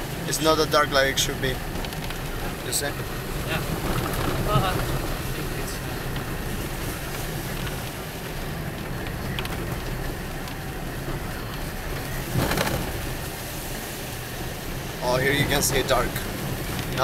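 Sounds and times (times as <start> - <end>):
car engine and tyres on wet road: 0.0 - 17.0.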